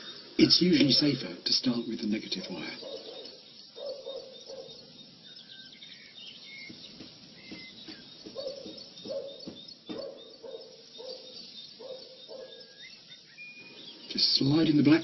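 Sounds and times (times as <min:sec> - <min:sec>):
birds chirping and whistling: 0:00.0 - 0:15.0
low repeated bird notes: 0:00.0 - 0:15.0.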